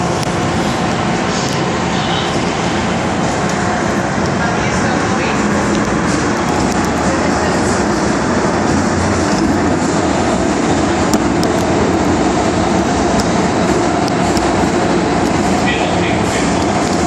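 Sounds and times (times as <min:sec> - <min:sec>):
metro train running in tunnel: 0:00.0 - 0:17.0
wheels clacking on rails: 0:00.0 - 0:17.0.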